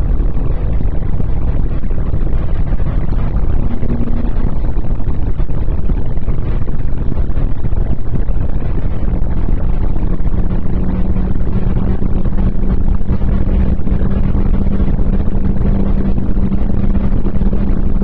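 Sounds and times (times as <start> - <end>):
car engine running at speed: 0.0 - 18.0
road and wind noise: 0.0 - 18.0.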